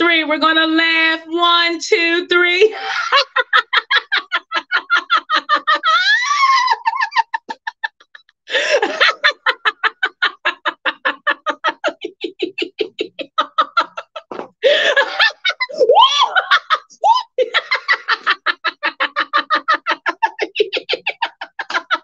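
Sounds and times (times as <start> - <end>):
woman laughing: 2.8 - 22.0.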